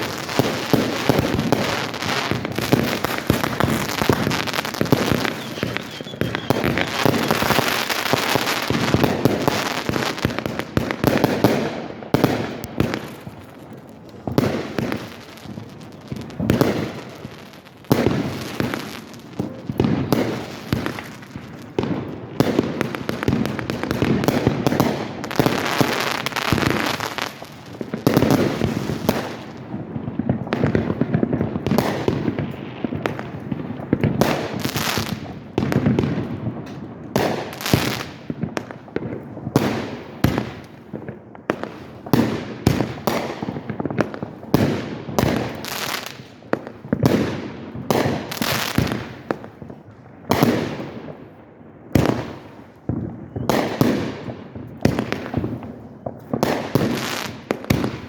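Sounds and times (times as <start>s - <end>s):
fireworks exploding: 0.0s - 58.0s.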